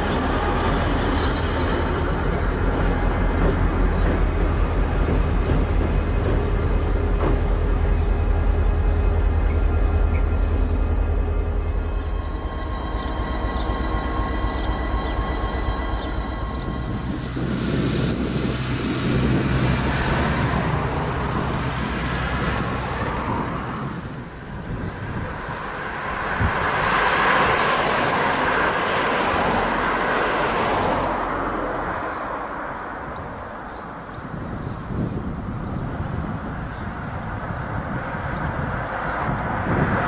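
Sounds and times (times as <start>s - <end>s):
diesel locomotive engine drone: 0.0s - 40.0s
freight train rushing rumble: 0.0s - 40.0s.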